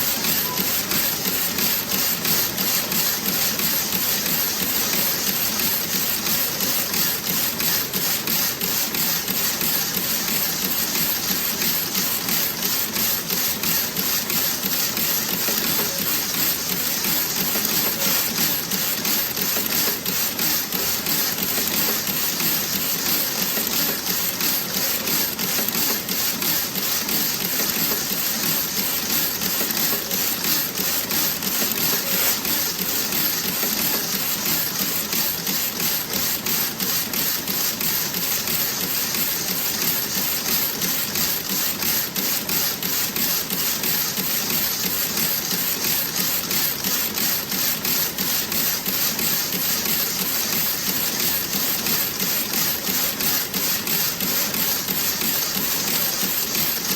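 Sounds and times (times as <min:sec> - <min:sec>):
knitting machine clattering: 0:00.0 - 0:56.9.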